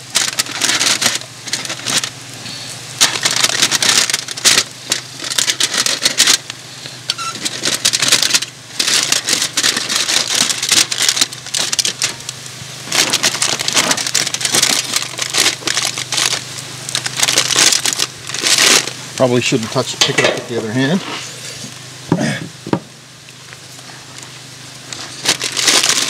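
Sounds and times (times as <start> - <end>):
aluminium foil crinkling and tearing: 0.0 - 21.9, 23.2 - 26.0.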